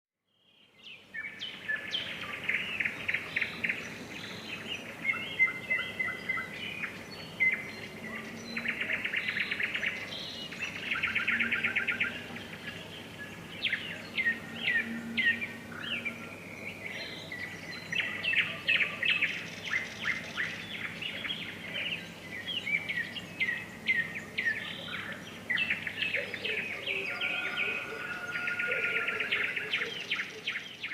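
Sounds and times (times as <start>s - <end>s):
songbirds singing: 0.2s - 30.9s.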